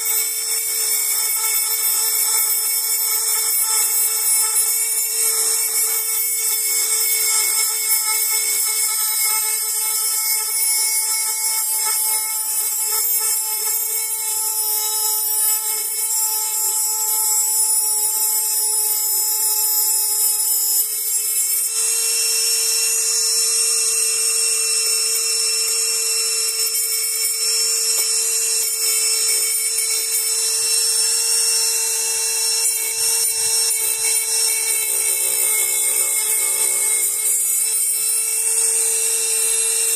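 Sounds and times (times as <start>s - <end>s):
rotary tool grinding metal: 0.0s - 39.9s.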